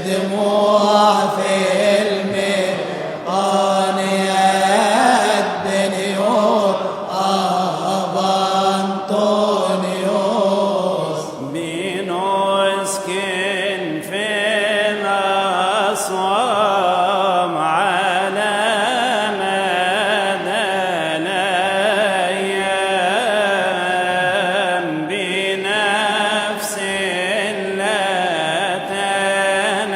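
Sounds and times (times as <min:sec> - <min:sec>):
man chanting a hymn: 0:00.0 - 0:29.9.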